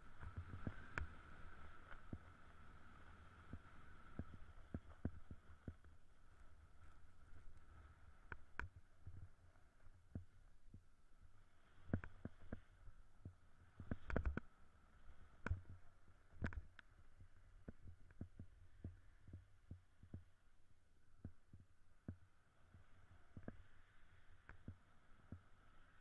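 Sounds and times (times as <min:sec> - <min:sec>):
faint low rumble: 0:00.0 - 0:26.0.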